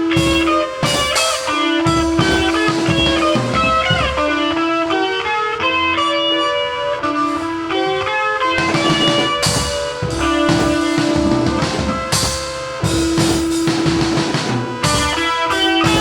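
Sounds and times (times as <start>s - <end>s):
drums and cymbals: 0.0s - 4.7s, 7.3s - 16.0s
electric guitar melody: 0.0s - 16.0s.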